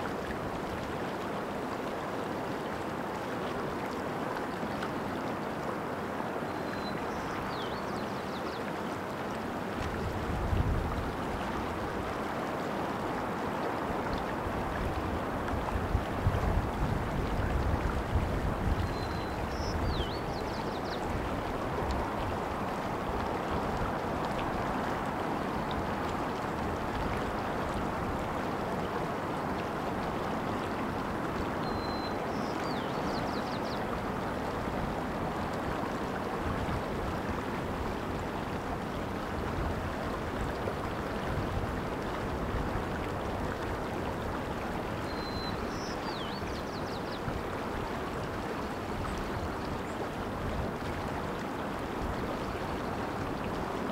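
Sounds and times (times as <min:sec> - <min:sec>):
water running over rocks: 0:00.0 - 0:53.9.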